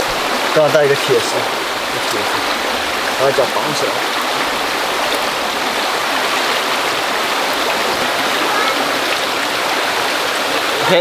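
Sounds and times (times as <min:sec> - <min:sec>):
stream flowing over stones: 0:00.0 - 0:11.0.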